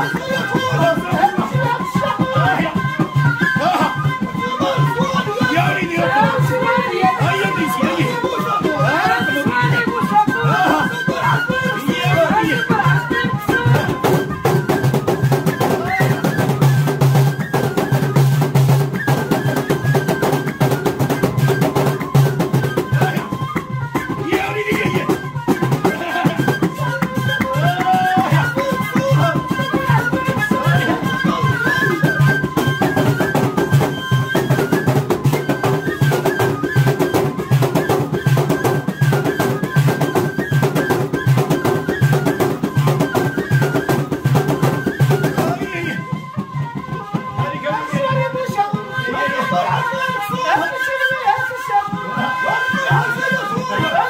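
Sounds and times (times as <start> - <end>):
fast steady drumming: 0.0 - 50.6
cane flutes playing melody: 0.0 - 54.0.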